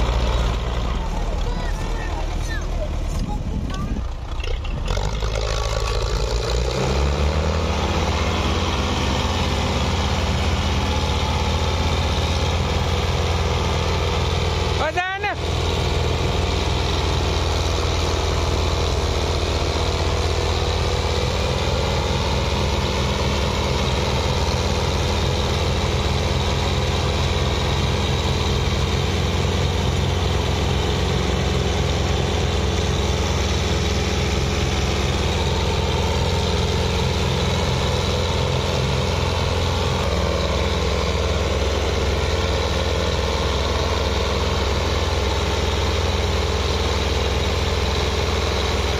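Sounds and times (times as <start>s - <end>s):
tractor engines running: 0.0s - 48.9s.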